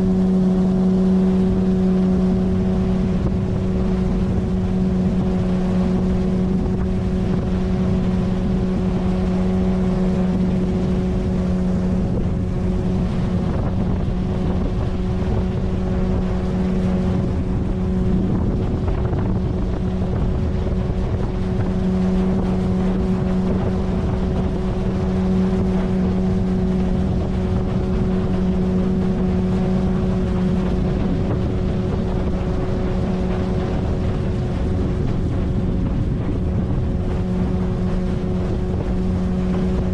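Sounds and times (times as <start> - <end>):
outboard motor running: 0.0 - 39.9
wind buffeting microphone: 0.0 - 39.9.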